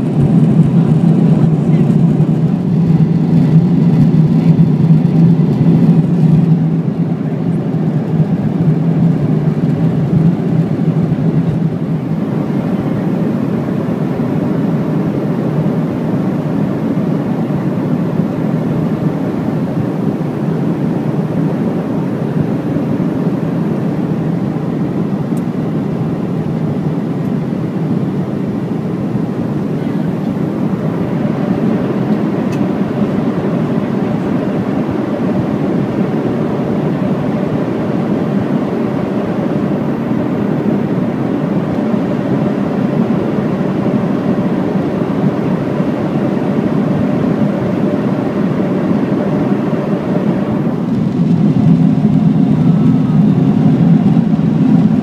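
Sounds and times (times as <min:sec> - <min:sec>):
airliner cabin roar: 0:00.0 - 0:55.0.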